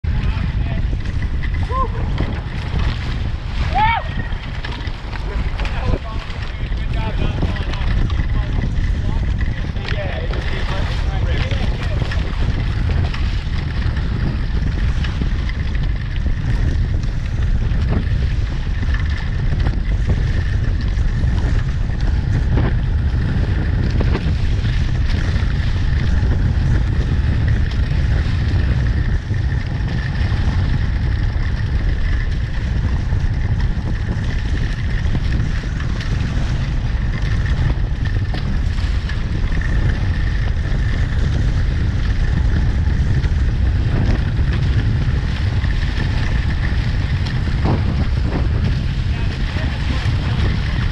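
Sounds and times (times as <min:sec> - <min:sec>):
water rushing past hulls: 0:00.0 - 0:50.9
wind buffeting microphone: 0:00.0 - 0:50.9.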